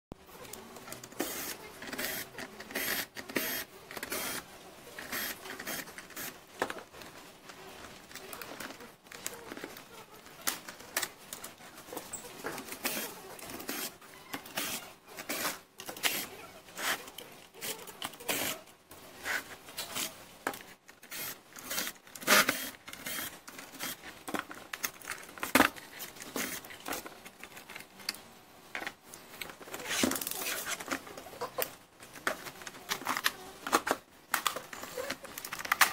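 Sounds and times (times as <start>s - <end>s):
plastic and metal parts rattling: 0.3s - 35.9s.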